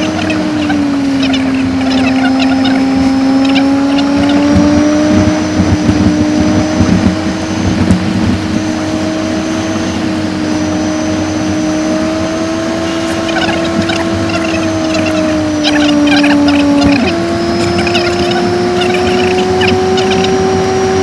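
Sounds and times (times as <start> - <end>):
sped up engine hum: 0.0 - 21.0.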